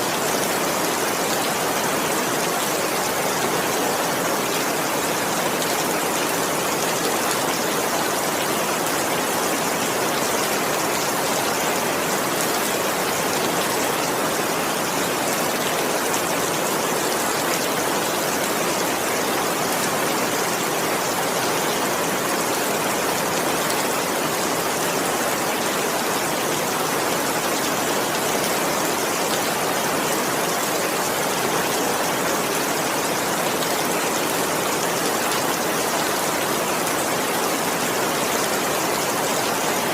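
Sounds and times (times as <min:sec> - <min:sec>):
heavy rain downpour: 0:00.0 - 0:39.9.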